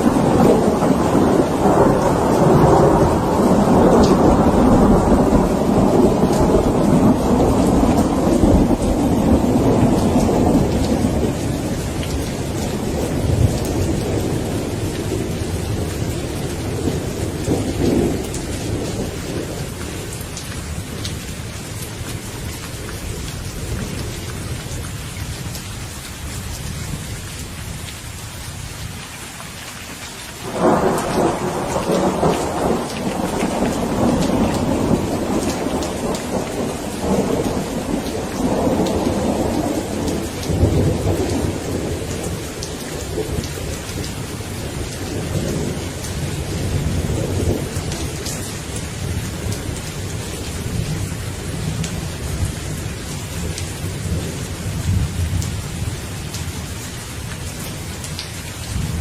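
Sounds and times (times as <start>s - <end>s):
rolling thunder: 0.0s - 22.2s, 30.4s - 56.4s
steady rain: 0.0s - 59.0s.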